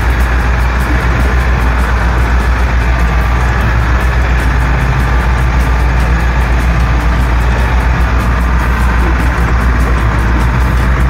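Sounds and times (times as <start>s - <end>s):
boat engine droning: 0.0s - 11.0s
water splashing against hull: 0.0s - 11.0s.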